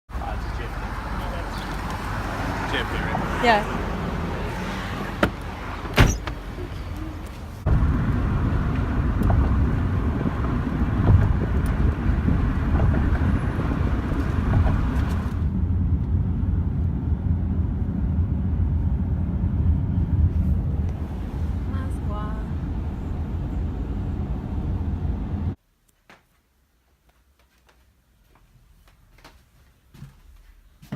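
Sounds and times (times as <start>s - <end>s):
traffic rumble: 0.1s - 25.6s.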